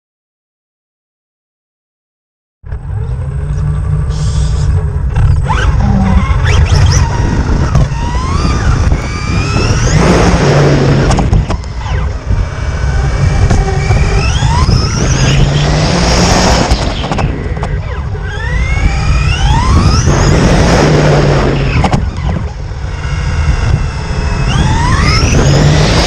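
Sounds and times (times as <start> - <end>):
electric motor whining: 2.7 - 26.0
tyre and wind rumble: 4.7 - 26.0.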